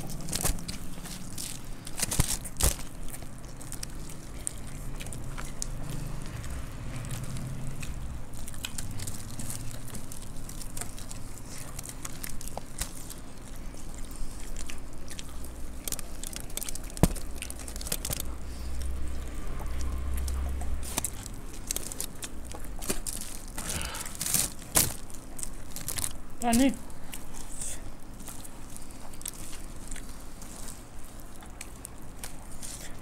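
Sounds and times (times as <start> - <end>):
people chewing crunchy snacks: 0.0 - 33.0.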